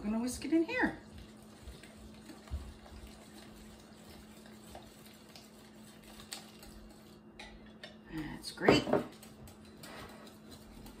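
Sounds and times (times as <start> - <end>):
wire whisk stirring: 0.0 - 11.0
liquid sloshing into a bowl: 0.5 - 11.0.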